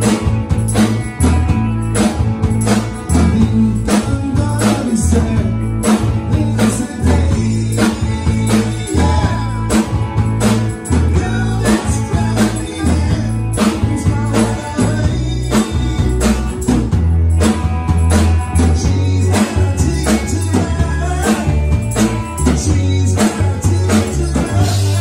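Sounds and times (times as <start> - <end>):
rock band playing: 0.0 - 25.0
tambourine shaking: 0.0 - 25.0.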